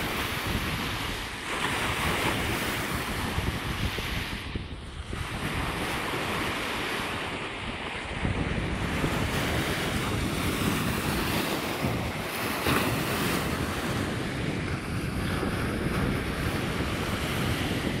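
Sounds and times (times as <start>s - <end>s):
small waves breaking on shore: 0.0s - 18.0s
wind buffeting microphone: 0.0s - 18.0s.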